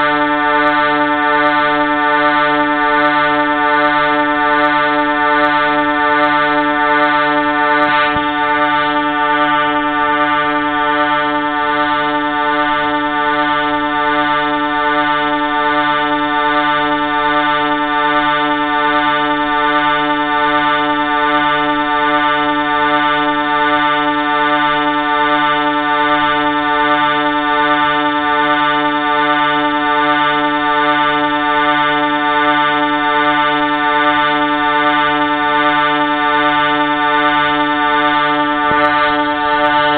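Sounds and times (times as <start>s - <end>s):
train horn chord: 0.0s - 39.9s.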